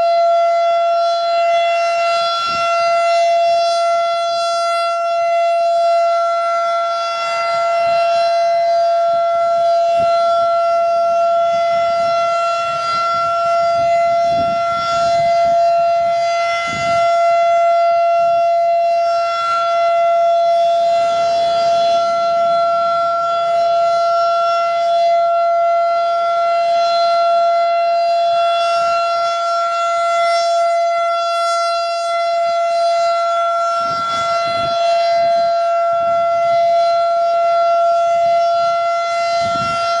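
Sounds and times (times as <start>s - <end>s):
rotating warning siren: 0.0s - 40.0s.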